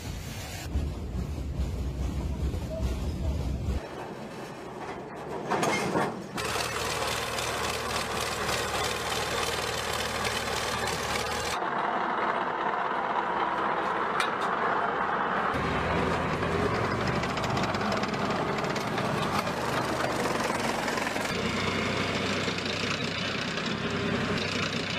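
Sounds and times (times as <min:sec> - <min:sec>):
tracked vehicle engines running: 0:00.6 - 0:24.9.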